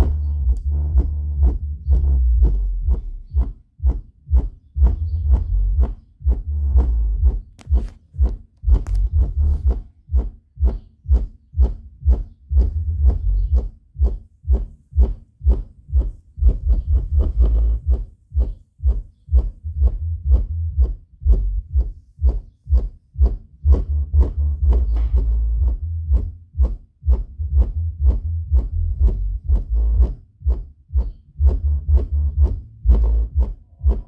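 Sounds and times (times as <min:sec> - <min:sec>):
subwoofer playing bass-heavy music: 0:00.0 - 0:34.0.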